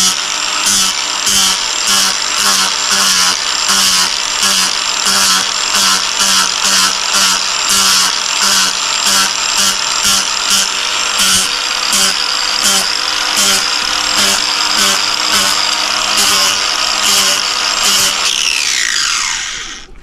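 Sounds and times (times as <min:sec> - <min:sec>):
angle grinder grinding: 0:00.0 - 0:20.0.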